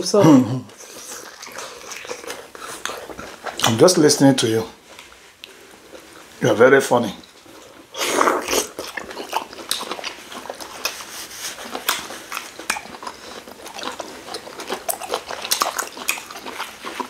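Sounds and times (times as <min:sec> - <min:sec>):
wet eating and lip smacking: 0:00.2 - 0:04.0, 0:04.8 - 0:17.0.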